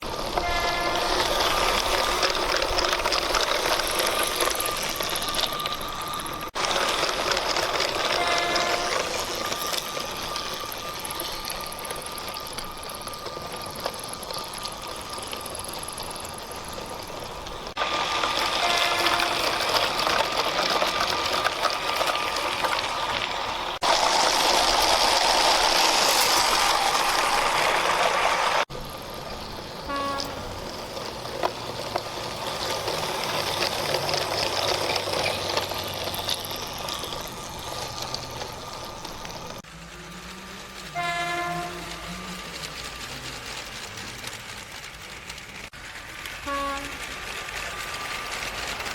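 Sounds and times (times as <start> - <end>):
toy train motor whirring: 0.0 - 48.9
wheels rattling over plastic track: 0.0 - 48.9.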